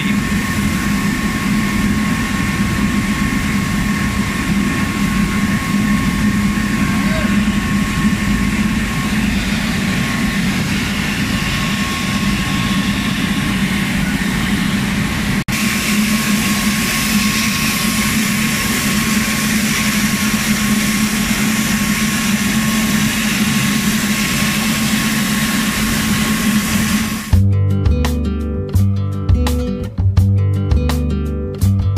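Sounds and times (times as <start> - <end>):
faint high whine: 0.0 - 27.3
mill machinery running: 0.0 - 27.4.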